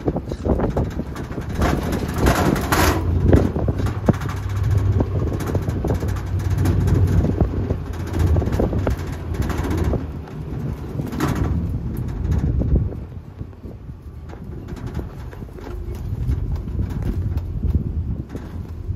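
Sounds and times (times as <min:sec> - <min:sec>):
knocks and rattles: 0:00.0 - 0:18.9
truck engine and road rumble: 0:00.0 - 0:18.9
wind buffeting microphone: 0:00.0 - 0:18.9.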